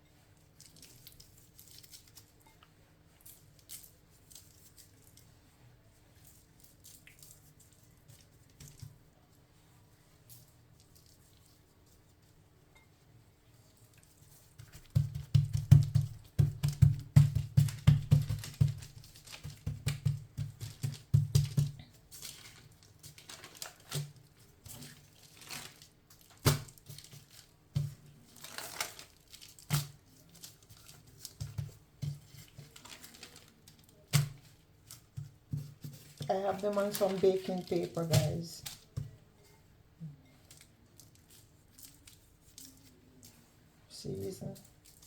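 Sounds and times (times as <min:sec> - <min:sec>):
baking paper crinkling: 0:00.3 - 0:12.4, 0:13.5 - 0:39.6, 0:40.3 - 0:45.0.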